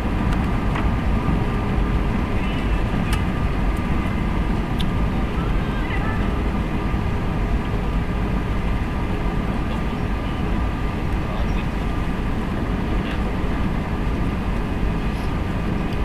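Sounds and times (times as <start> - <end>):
airliner engine drone: 0.0 - 16.0
thin steady whine: 0.0 - 16.0.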